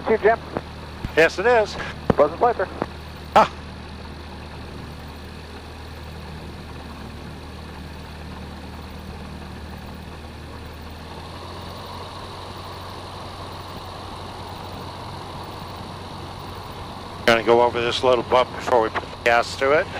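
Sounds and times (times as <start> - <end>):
small airplane engine drone: 0.0 - 19.9.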